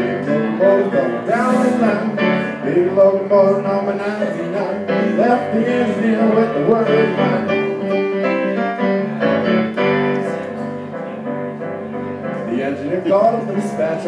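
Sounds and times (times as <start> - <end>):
keyboard piano chords: 0.0 - 14.0
wavering piano melody: 0.0 - 14.0.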